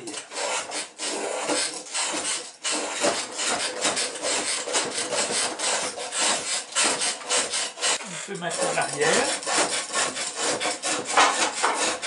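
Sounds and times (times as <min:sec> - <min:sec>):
spokeshave scraping wood: 0:00.0 - 0:12.0.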